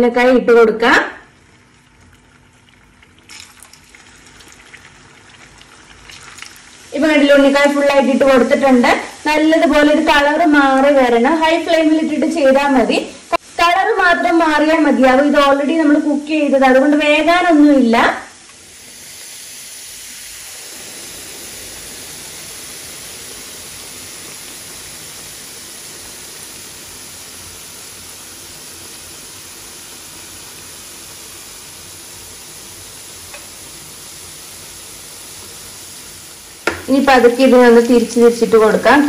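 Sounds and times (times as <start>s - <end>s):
hot oil sizzling: 0.0s - 39.0s.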